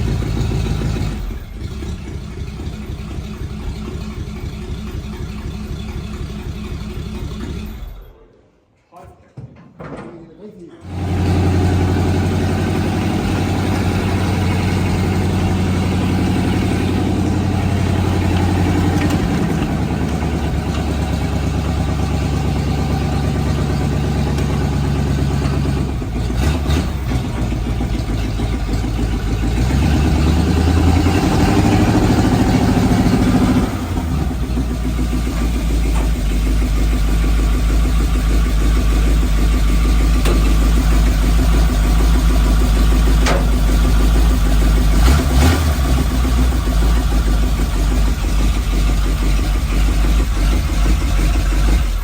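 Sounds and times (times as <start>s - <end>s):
engine starting and revving: 0.0s - 8.4s, 10.8s - 52.0s.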